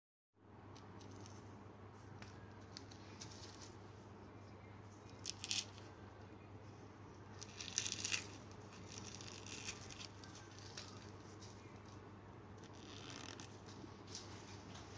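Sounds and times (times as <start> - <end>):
steady low hum: 0.4 - 14.9.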